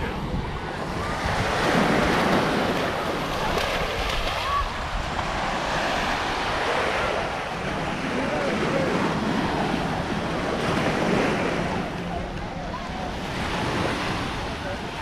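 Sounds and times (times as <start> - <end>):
surf washing onto sandy beach: 0.0 - 15.0
wind buffeting microphone: 0.0 - 15.0.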